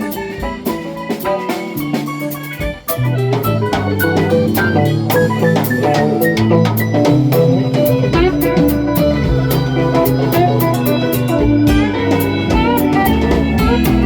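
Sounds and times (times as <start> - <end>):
drum kit beat: 0.0 - 14.0
live band playing instrumental: 0.0 - 14.0.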